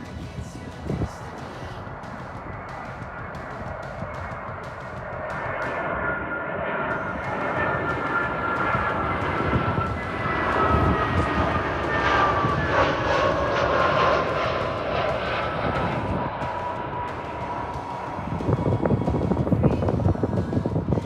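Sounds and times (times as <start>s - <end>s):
airliner passing overhead: 0.0s - 21.0s.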